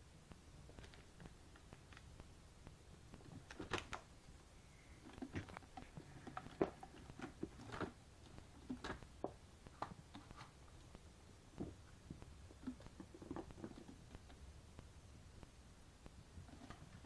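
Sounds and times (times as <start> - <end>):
kittens scampering and play-fighting: 0.6 - 17.0.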